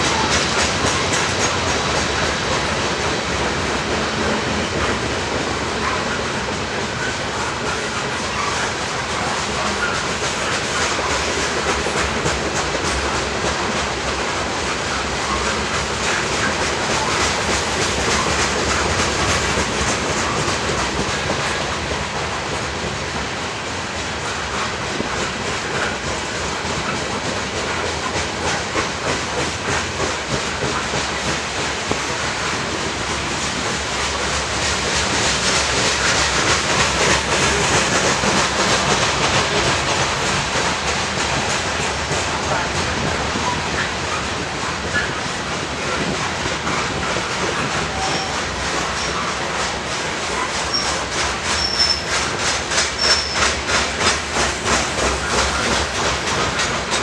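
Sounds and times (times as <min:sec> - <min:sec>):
train cars rumbling: 0:00.0 - 0:57.0.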